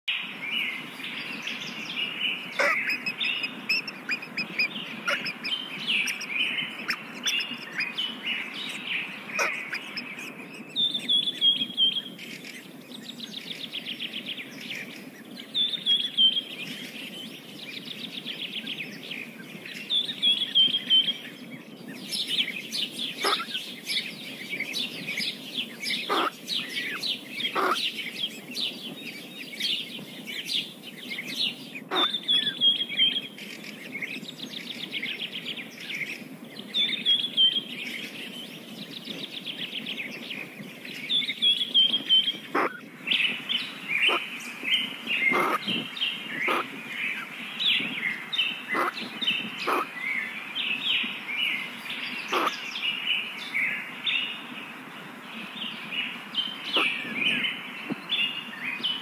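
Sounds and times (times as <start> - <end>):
bird chirping: 0.1 - 54.8, 55.4 - 59.0
bird twittering trills: 0.1 - 54.8.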